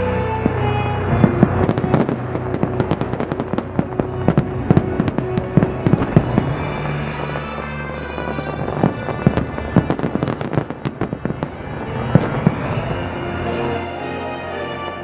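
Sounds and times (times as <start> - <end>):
music playing: 0.0 - 15.0
firework bangs and pops: 0.4 - 13.1.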